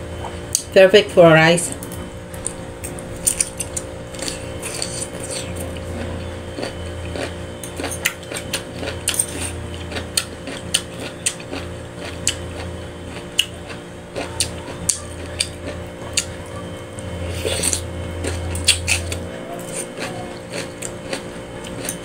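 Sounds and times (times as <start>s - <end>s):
steady hum: 0.0s - 22.0s
person chewing crisp vegetables: 1.7s - 22.0s.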